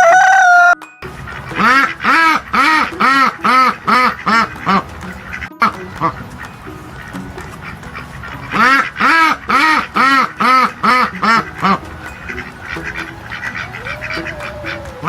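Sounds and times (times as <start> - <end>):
duck quacking: 1.2 - 6.2, 6.9 - 15.0.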